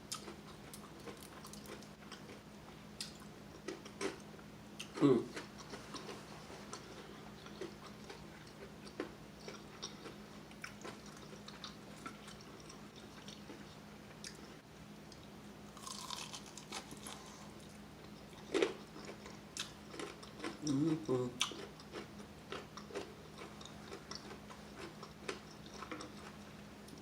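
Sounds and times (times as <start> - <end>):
faint low hum: 0.0 - 27.0
crunchy chewing of fried chicken: 0.1 - 27.0.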